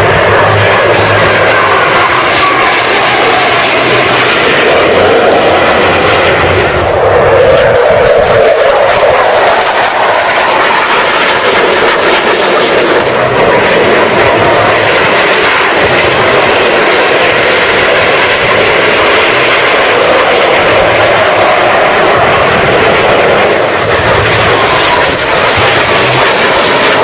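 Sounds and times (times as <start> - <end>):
jets flying by: 0.0 - 27.0.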